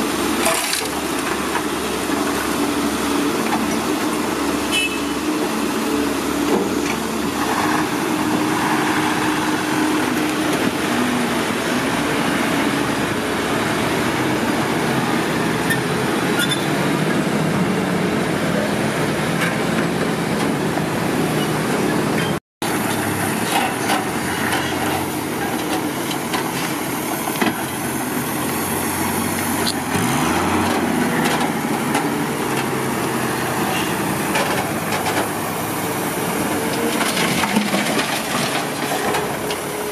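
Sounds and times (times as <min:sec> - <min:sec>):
heavy vehicle engine running: 0:00.0 - 0:39.9.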